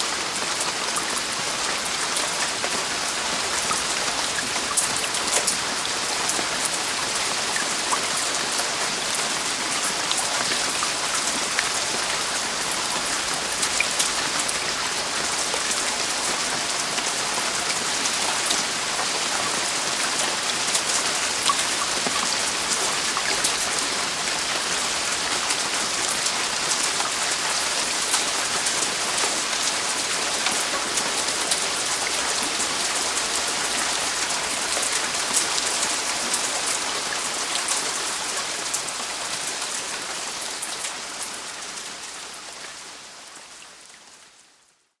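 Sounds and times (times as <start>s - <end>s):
heavy rain on a roof: 0.0s - 45.0s.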